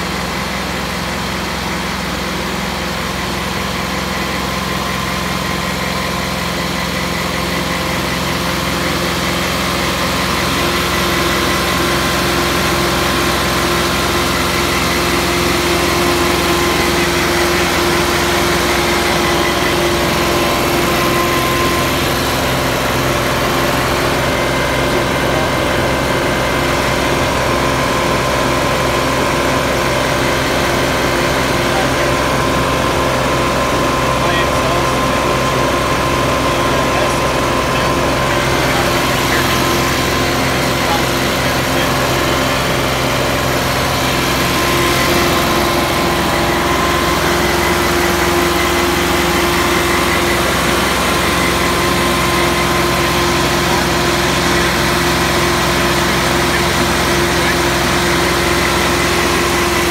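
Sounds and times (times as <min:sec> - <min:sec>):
tractor diesel engine fast idle: 0:00.0 - 0:59.9.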